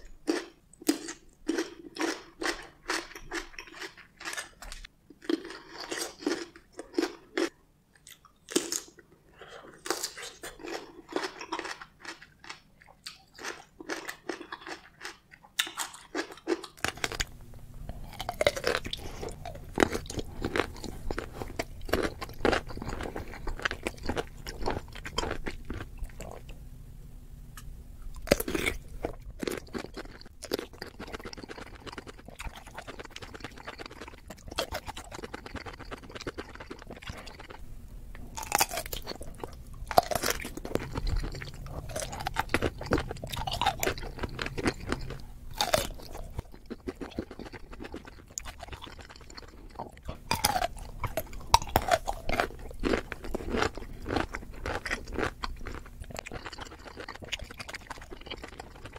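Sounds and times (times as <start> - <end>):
crunchy pickle chewing: 0.2 - 26.6, 27.6 - 58.9.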